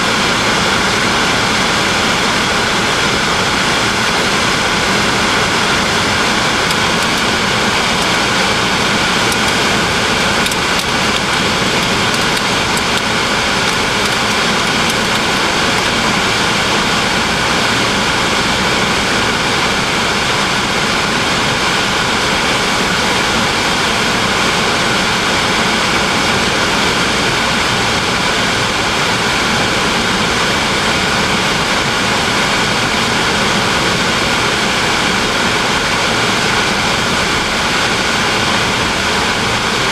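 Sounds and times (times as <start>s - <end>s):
car interior road noise: 0.0s - 39.9s.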